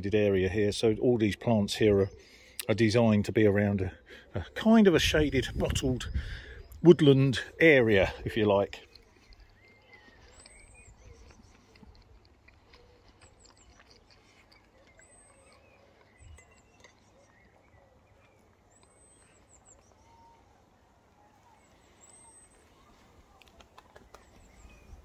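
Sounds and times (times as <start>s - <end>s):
distant birds chirping: 0.0s - 25.0s.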